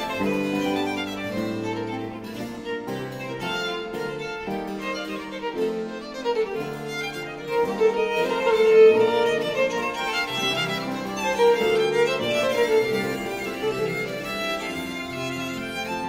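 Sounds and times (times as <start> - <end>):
violins playing: 0.0 - 16.0.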